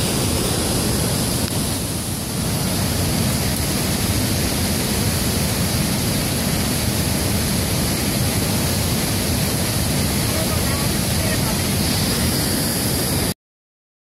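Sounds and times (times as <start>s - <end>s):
river water rushing: 0.0s - 13.4s.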